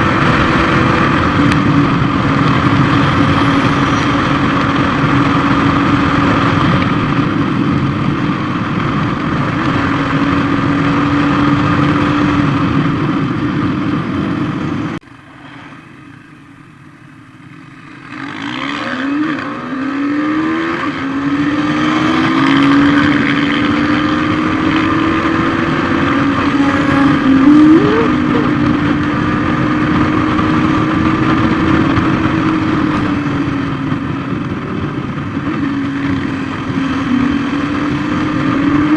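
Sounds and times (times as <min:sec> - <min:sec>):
motorcycle engine running: 0:00.0 - 0:15.2, 0:20.8 - 0:38.9.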